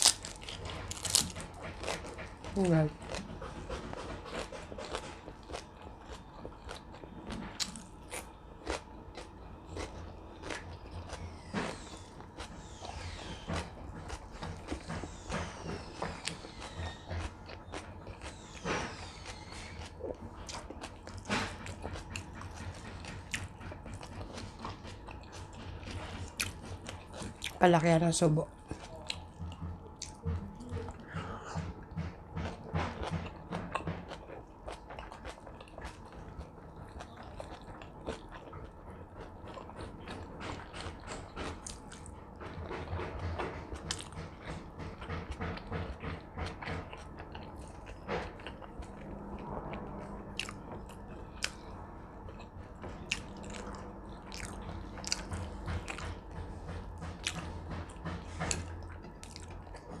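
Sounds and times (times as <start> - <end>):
person chewing food: 0.0 - 27.7, 28.5 - 60.0
steady low hum: 0.0 - 60.0.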